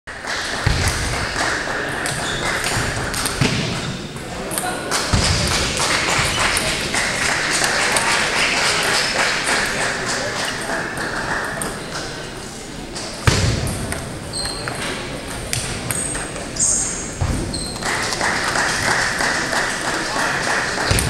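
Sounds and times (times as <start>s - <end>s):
murmur of voices: 0.2s - 21.0s.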